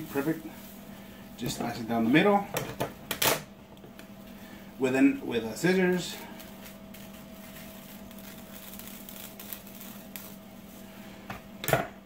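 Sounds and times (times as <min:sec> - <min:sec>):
plastic bag rustling: 0:00.0 - 0:02.4, 0:04.2 - 0:11.6.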